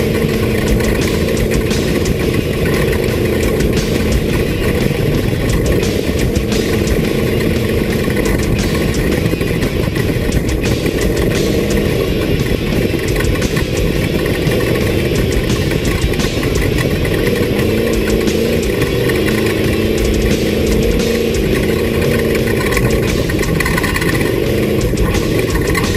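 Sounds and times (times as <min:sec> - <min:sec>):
engine running loudly: 0:00.0 - 0:25.9
rattles and knocks: 0:00.0 - 0:25.9.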